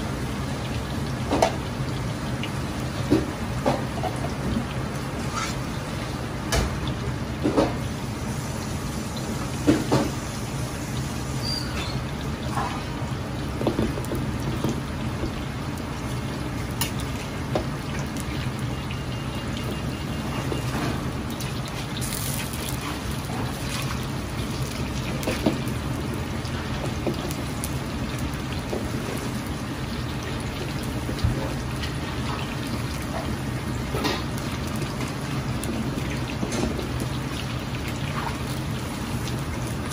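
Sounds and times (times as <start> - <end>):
oil sizzling and crackling: 0.0 - 39.9.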